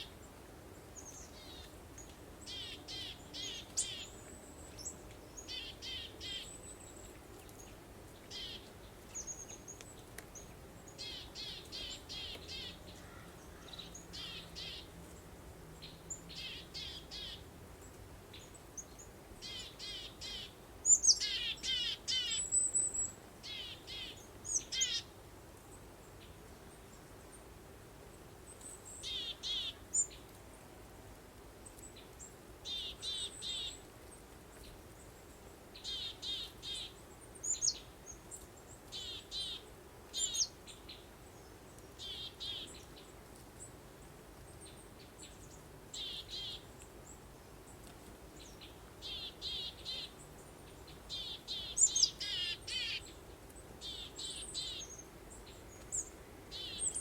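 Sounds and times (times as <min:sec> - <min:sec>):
songbirds singing: 0:00.0 - 0:25.1, 0:28.2 - 0:30.4, 0:31.6 - 0:57.0
faint steady hiss: 0:00.0 - 0:57.0.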